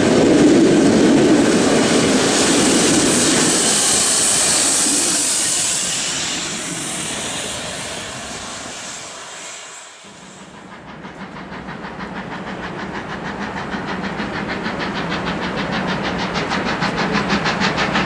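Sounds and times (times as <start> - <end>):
train wheels rolling and clattering: 0.0 - 9.3, 10.0 - 18.0.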